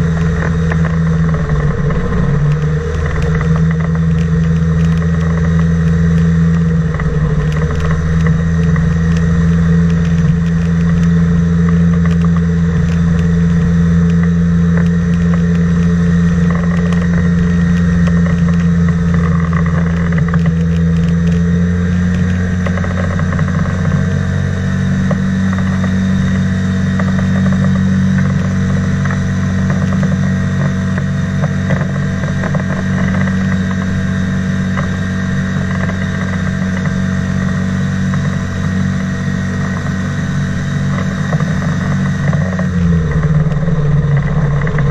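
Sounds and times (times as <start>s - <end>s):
flying boat engine and propeller: 0.0s - 44.9s.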